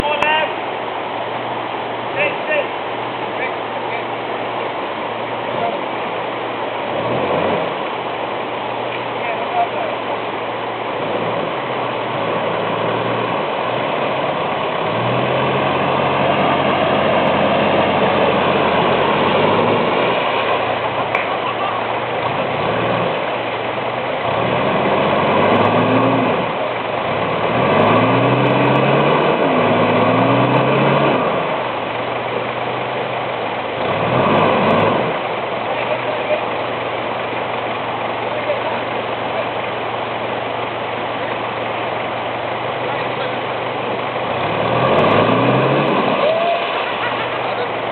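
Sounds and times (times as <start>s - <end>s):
rushing water: 0.0s - 47.9s
off-road vehicle engine revving: 3.0s - 47.9s.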